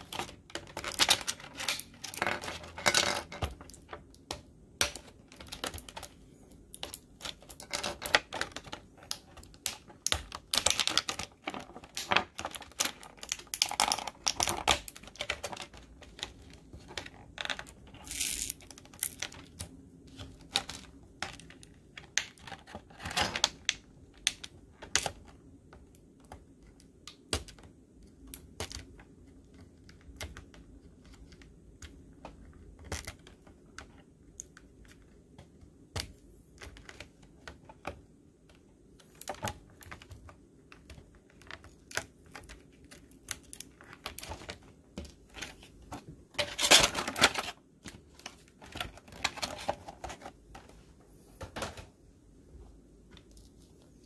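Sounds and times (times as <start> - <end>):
plastic pieces clicking: 0.0 - 45.5.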